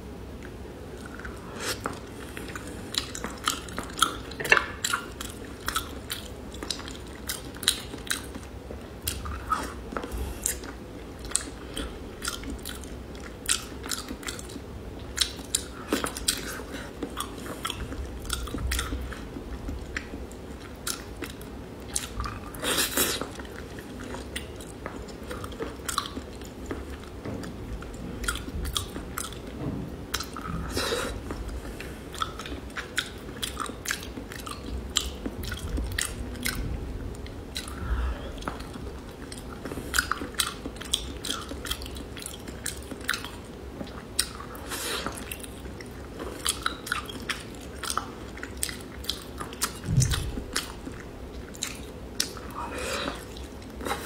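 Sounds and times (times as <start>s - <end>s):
chewing and biting: 0.4s - 54.0s.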